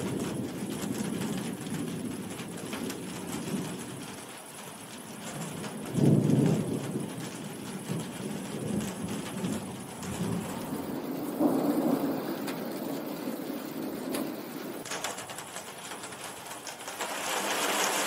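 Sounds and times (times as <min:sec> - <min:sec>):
rumbling thunder: 0:00.0 - 0:15.5
heavy rain: 0:00.0 - 0:18.0.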